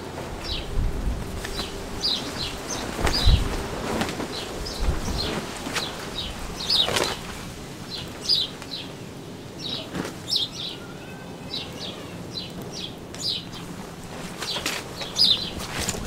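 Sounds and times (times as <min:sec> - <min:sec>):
small birds chirping: 0:01.5 - 0:03.6, 0:04.3 - 0:16.0.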